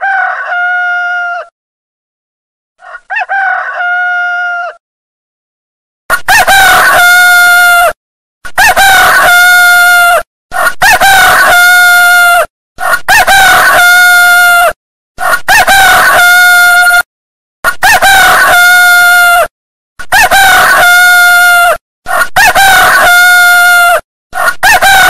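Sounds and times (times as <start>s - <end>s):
rooster crowing: 0.0s - 1.5s, 2.8s - 4.8s, 6.2s - 8.0s, 8.6s - 17.0s, 17.8s - 19.5s, 20.1s - 25.0s.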